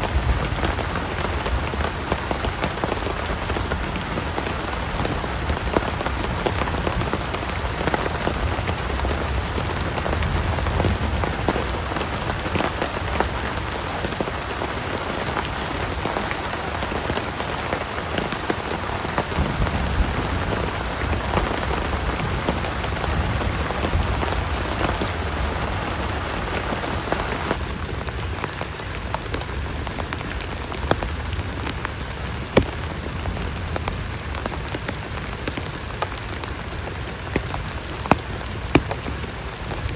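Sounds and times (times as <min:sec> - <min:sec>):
heavy rain falling: 0:00.0 - 0:39.9
raindrops tapping close by: 0:00.0 - 0:39.9.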